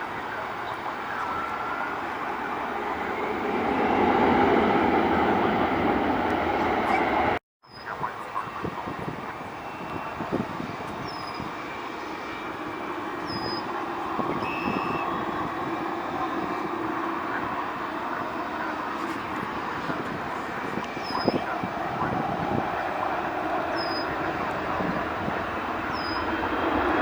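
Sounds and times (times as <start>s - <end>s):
airport noise: 0.0s - 27.0s
jet airliner engine noise: 0.0s - 27.0s.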